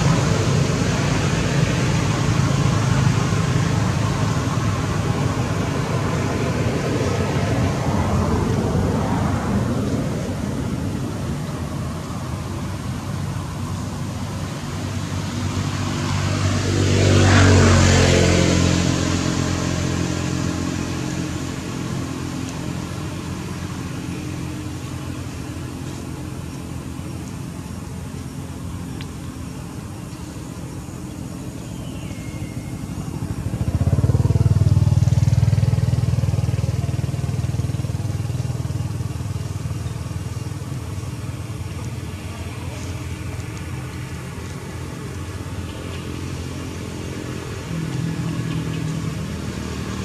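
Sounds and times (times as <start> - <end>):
low engine hum: 0.0 - 50.0
vehicles passing by: 0.0 - 50.0.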